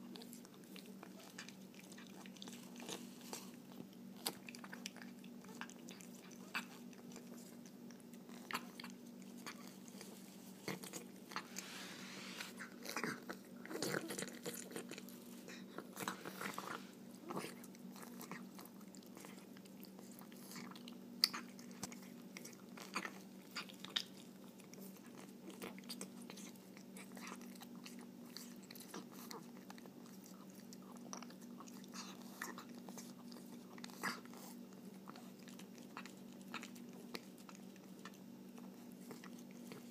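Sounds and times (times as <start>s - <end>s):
cat chewing and licking: 0.0s - 39.9s.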